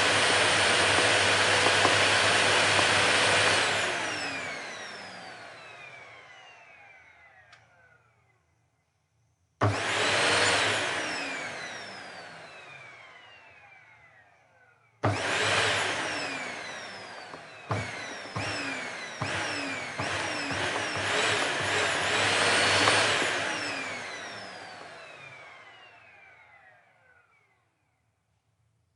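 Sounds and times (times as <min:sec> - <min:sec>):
vacuum cleaner motor whining: 0:00.0 - 0:08.3, 0:09.6 - 0:27.6.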